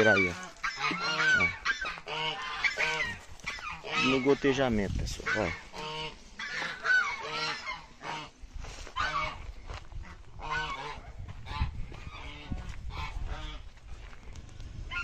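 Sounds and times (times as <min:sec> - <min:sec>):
geese honking: 0:00.0 - 0:04.6, 0:05.2 - 0:09.4, 0:10.0 - 0:13.6.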